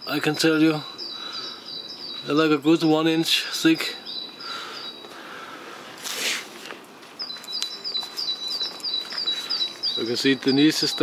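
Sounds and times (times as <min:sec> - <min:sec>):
songbird chirping: 0:00.0 - 0:06.3, 0:07.0 - 0:11.0.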